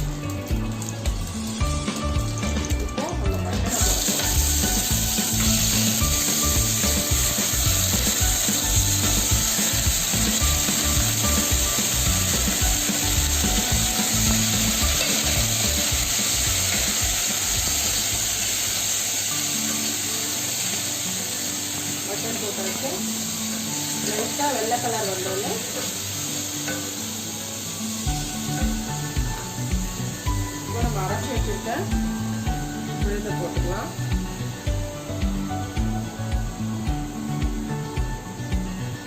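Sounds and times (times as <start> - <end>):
meat sizzling in hot oil: 0.0 - 39.0.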